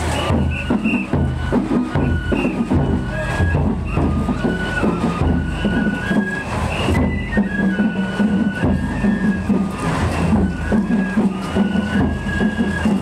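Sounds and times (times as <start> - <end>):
bamboo flute melody: 0.0 - 13.0
fast steady drumming: 0.0 - 13.0.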